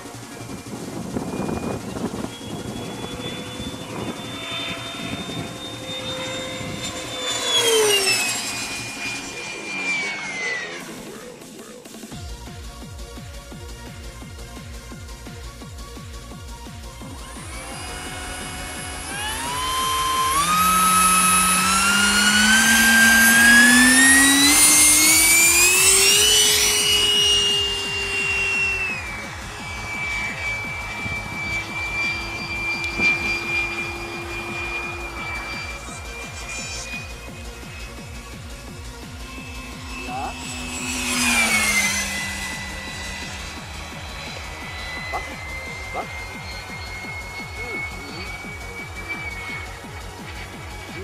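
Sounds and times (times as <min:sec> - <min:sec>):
electric ducted fan whining: 0:00.0 - 0:51.0.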